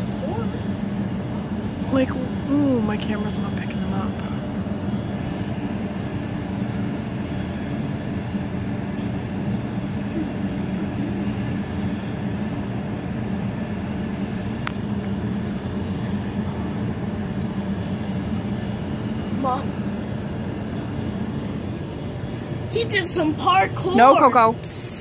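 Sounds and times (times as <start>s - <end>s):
machinery hum and rumble: 0.0s - 25.0s.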